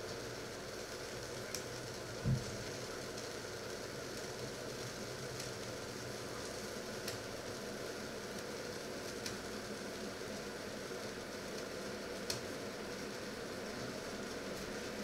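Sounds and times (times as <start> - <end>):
water heating hiss and rumble: 0.0 - 15.0.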